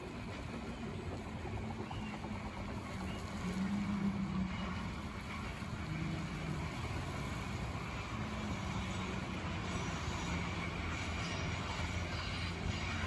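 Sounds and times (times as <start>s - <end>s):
electric train rolling rumble: 0.0s - 13.0s.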